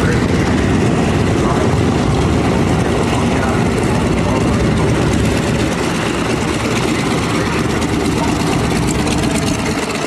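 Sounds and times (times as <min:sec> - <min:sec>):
piston aircraft engine running: 0:00.0 - 0:10.0.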